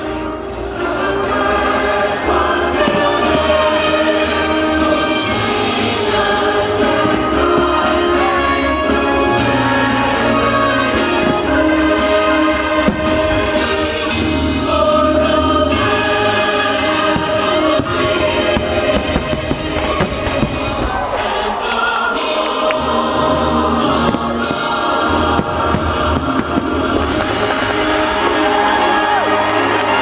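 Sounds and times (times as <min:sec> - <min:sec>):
choir singing: 0:00.0 - 0:30.0
orchestral music: 0:00.0 - 0:30.0
fireworks banging: 0:00.5 - 0:14.7, 0:15.6 - 0:30.0.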